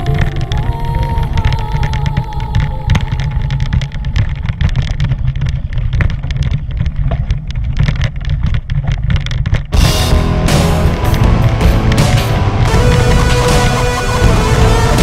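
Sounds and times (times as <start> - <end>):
bike rattling over rough trail: 0.0 - 13.4.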